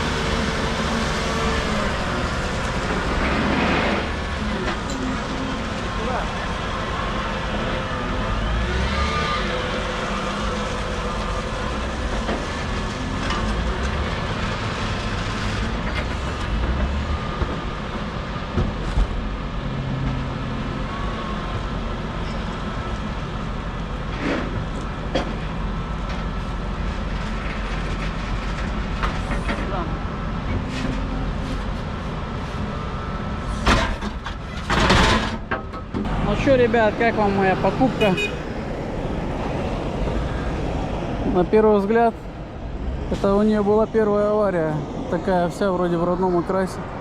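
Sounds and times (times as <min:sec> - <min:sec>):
vehicle engine noise: 0:00.0 - 0:47.0.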